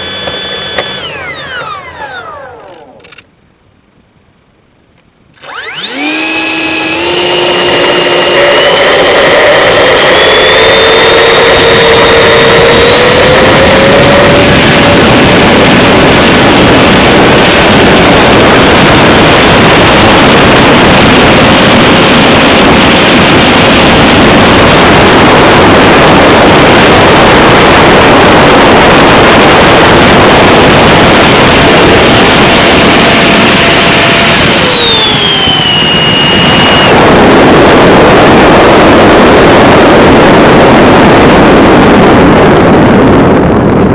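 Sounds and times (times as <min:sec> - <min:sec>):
electric ducted fan whining: 0:00.0 - 0:43.9.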